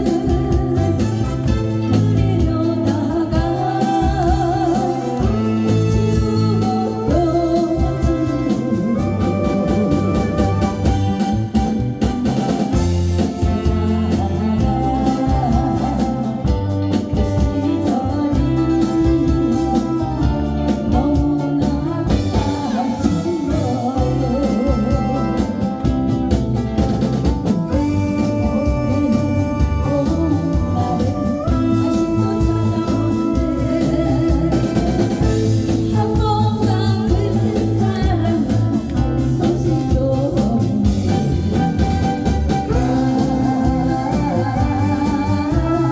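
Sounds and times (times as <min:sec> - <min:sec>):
guitar: 0:00.0 - 0:45.9
keyboard: 0:00.0 - 0:45.9
person singing pop song: 0:00.0 - 0:45.9.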